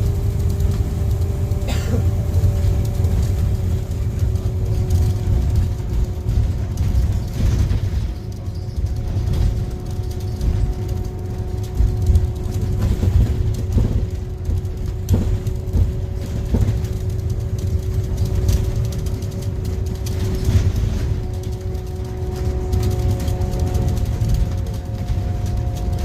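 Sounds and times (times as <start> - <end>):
bus engine rumble with whine: 0.0 - 26.0
knocks and rattles: 0.2 - 26.0.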